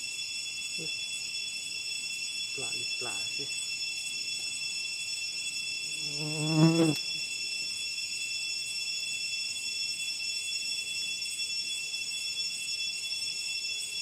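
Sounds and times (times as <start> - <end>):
cicada chorus drone: 0.0 - 14.0.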